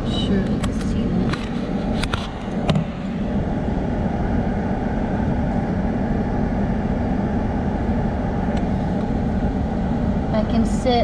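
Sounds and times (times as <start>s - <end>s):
car engine idling: 0.0s - 11.0s
climate control fan blowing: 0.0s - 11.0s.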